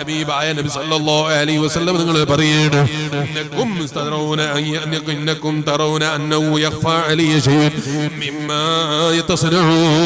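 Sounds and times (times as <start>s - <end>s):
man chanting into a microphone: 0.0s - 10.0s.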